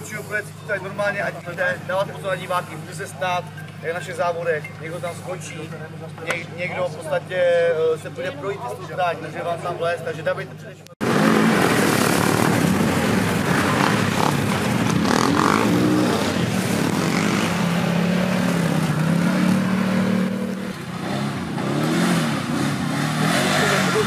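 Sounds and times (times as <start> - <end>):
quad bike engines revving: 0.0 - 24.0.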